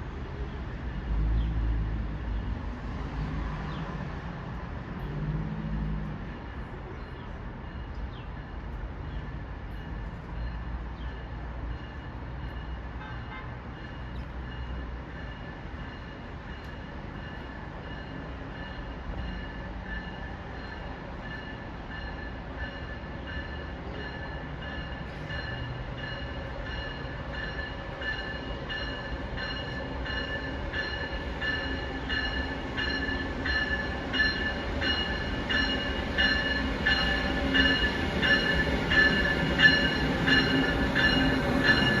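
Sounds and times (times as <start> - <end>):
train high whine: 0.0 - 42.0.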